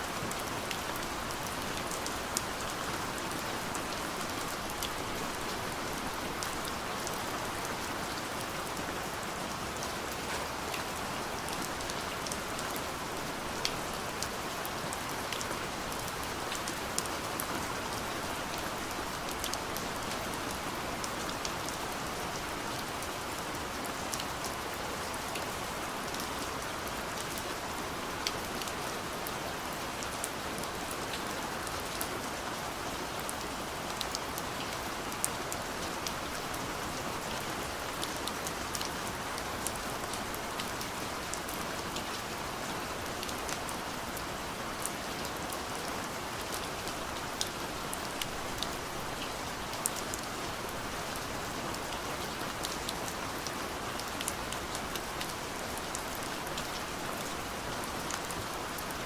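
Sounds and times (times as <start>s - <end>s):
rain falling on a window: 0.1s - 59.0s.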